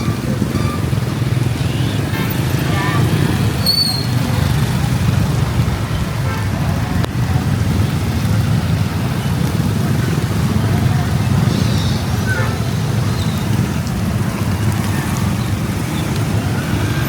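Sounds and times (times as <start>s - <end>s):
road and traffic rumble: 0.0s - 17.0s.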